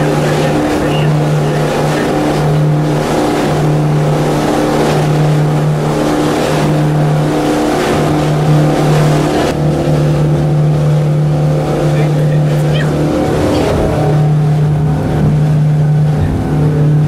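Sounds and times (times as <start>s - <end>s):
motorboat engine drone: 0.0s - 17.0s
wind: 0.0s - 17.0s.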